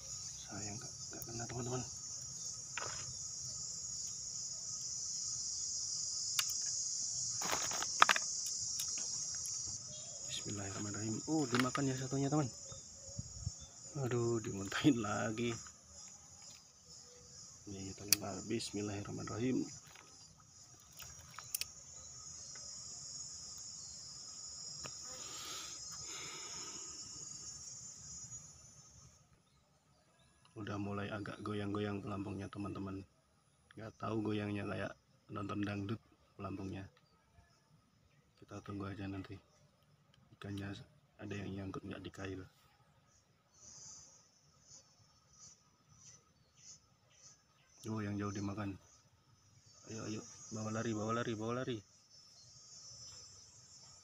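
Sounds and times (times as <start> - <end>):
high-pitched insect drone: 0.0 - 33.1, 43.1 - 54.0.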